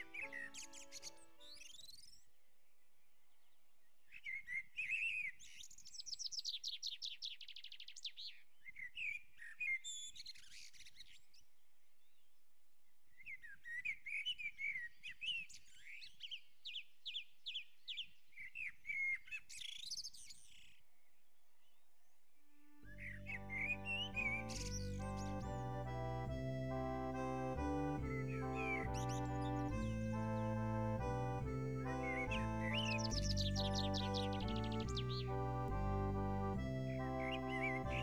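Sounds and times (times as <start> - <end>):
songbird singing: 0.0 - 12.3, 13.1 - 38.0.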